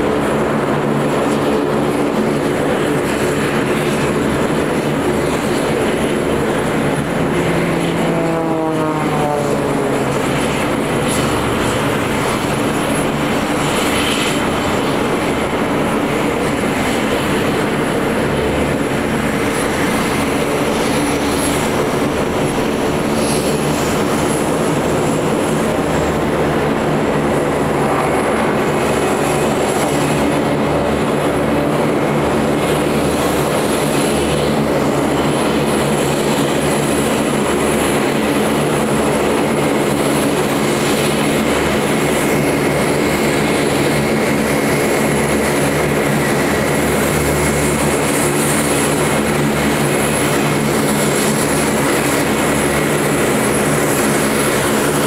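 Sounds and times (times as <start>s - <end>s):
high turbine whine: 0.0s - 55.0s
propeller drone: 0.0s - 55.0s.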